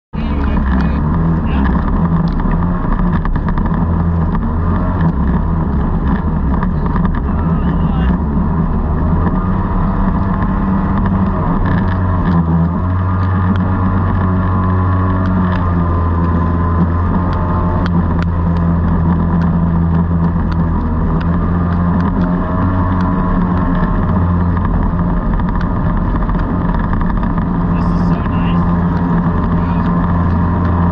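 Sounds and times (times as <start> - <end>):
boat engine running: 0.1 - 30.9.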